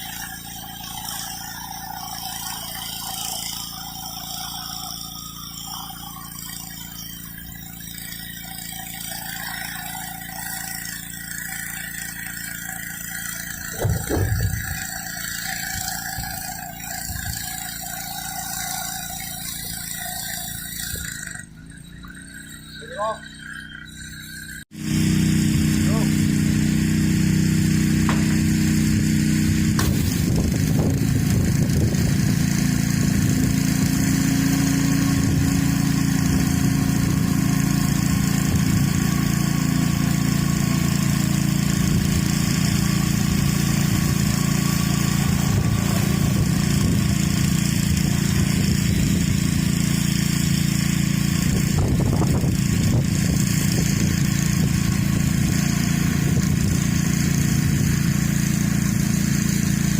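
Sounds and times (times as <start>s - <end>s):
high-pressure water jet hissing: 0.0s - 59.9s
pressure washer engine running: 0.0s - 59.9s.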